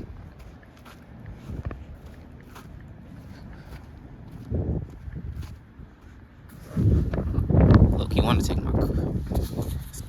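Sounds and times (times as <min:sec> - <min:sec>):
footsteps on dirt trail: 0:00.0 - 0:10.0
wind rumbling on microphone: 0:00.0 - 0:10.0.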